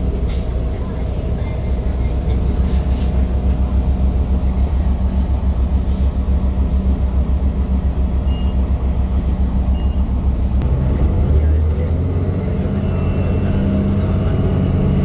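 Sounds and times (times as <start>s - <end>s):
bus diesel engine droning: 0.0s - 15.0s
low road rumble: 0.0s - 15.0s.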